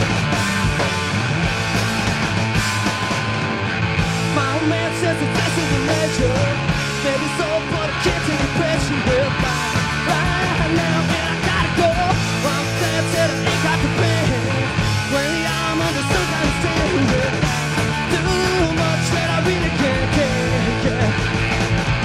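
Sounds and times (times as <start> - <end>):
bass guitar: 0.0 - 22.0
drums: 0.0 - 22.0
electric guitar: 0.0 - 22.0.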